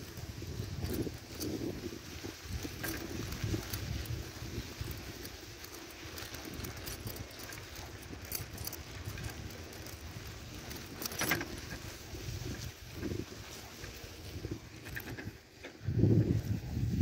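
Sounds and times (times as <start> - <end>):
handling noise: 0.0 - 16.4
wind rumble: 0.0 - 17.0.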